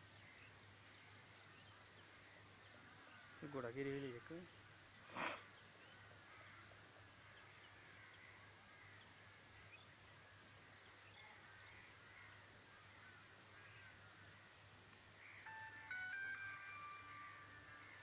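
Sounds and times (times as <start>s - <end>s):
faint bird calls: 0.1s - 18.0s.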